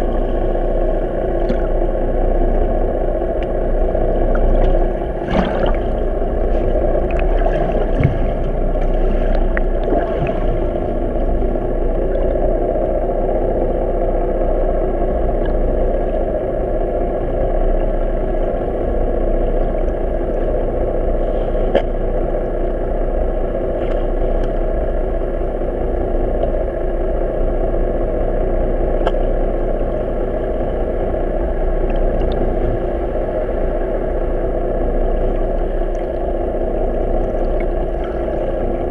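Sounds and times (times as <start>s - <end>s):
muffled boat engine underwater: 0.0s - 38.9s.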